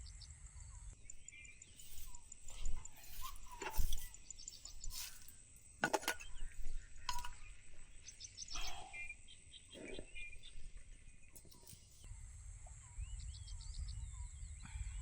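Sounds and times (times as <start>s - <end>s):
birds chirping: 0.0s - 15.0s
insects whining: 0.6s - 14.5s.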